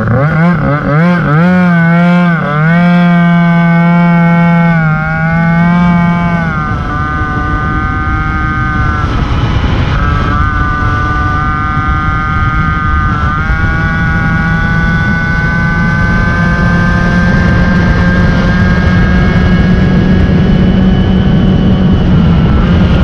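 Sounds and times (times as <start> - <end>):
moped engine at high revs: 0.0 - 23.0
wind rushing over microphone: 0.0 - 23.0.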